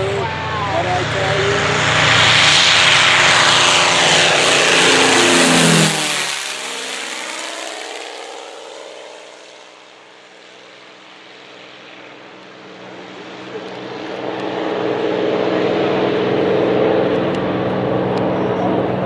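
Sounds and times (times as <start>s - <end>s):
propeller plane passing overhead: 0.0s - 19.0s.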